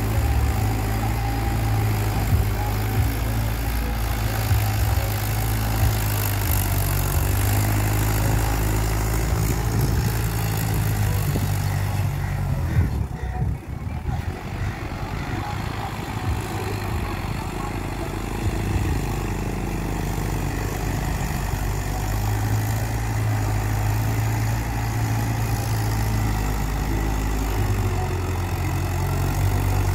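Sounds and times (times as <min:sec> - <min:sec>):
engine idling: 0:00.0 - 0:29.9.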